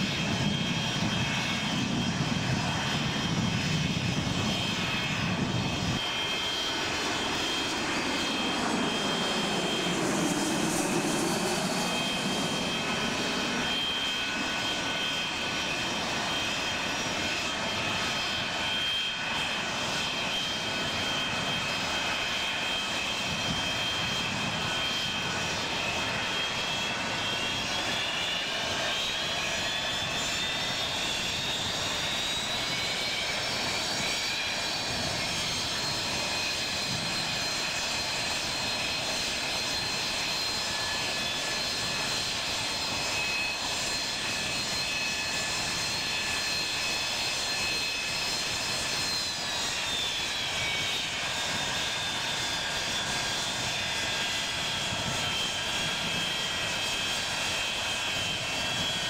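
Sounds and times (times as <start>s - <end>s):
jet engines with high whine: 0.0s - 59.0s.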